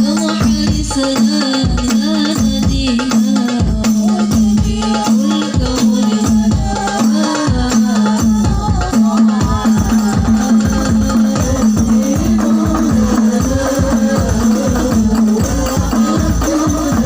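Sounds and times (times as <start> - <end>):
frame drums and tambourine: 0.0 - 17.0.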